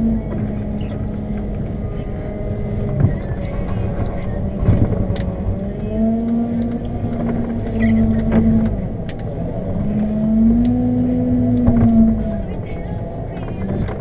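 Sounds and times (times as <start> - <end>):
diesel engine revving under load: 0.0 - 14.0.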